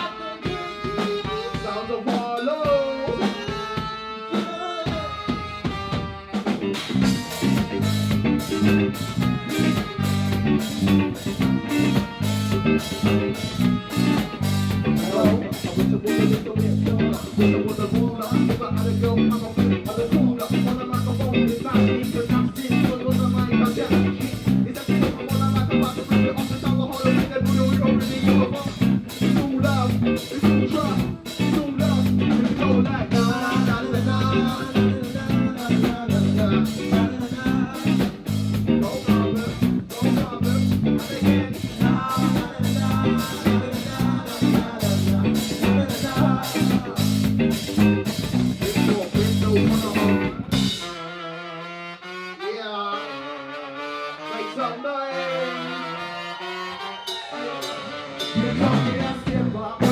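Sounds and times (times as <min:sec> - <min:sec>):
bass guitar: 0:00.0 - 0:51.2, 0:57.0 - 0:59.9
guitar: 0:00.0 - 0:52.5, 0:53.3 - 0:59.9
steady drum beat: 0:00.5 - 0:51.0.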